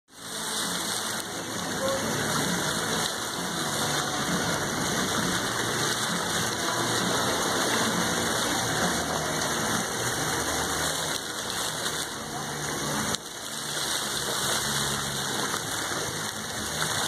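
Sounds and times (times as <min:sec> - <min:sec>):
fountain water splashing into pool: 0:00.1 - 0:17.0.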